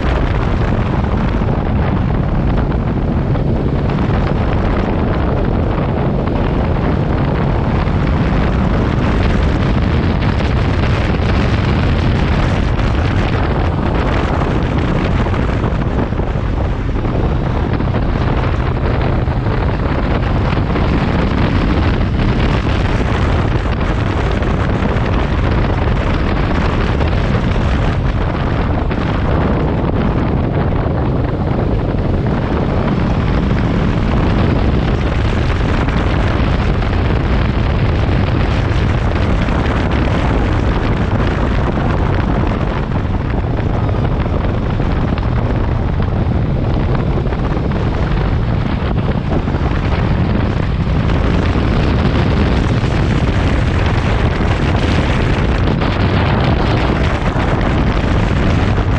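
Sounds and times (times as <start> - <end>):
road noise: 0.0 - 58.9
wind buffeting microphone: 0.0 - 58.9.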